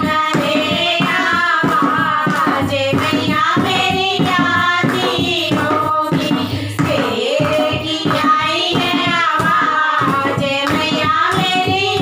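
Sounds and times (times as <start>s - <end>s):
women singing devotional song: 0.0s - 12.0s.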